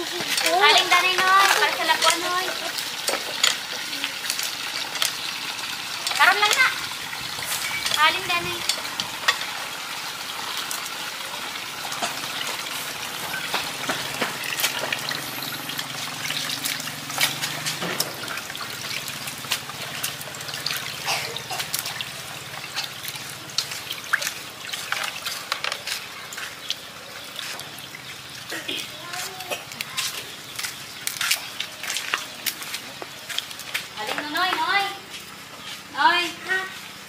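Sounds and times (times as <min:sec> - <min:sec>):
water splashing into plastic basin: 0:00.0 - 0:34.2.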